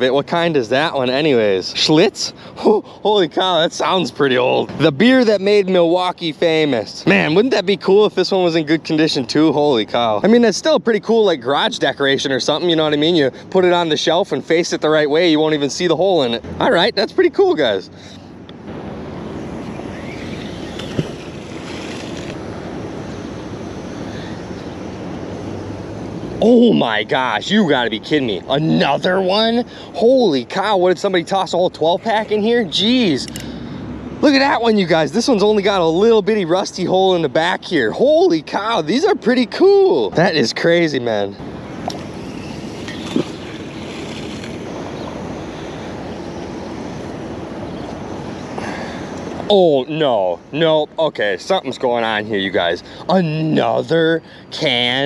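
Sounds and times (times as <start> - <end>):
rushing outdoor noise: 0.0 - 55.0.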